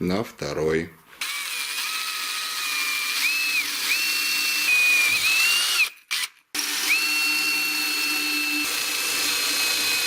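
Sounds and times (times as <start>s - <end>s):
electric drill boring into stone: 1.2s - 10.0s.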